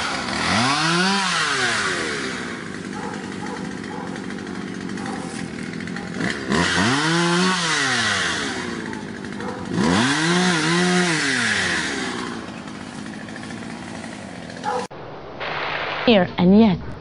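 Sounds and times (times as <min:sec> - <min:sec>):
small engine revving: 0:00.0 - 0:14.9.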